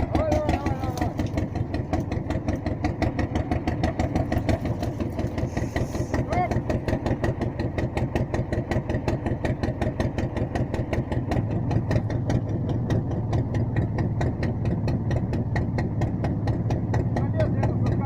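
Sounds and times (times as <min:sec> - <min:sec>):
tracked vehicle engine running: 0:00.0 - 0:18.0.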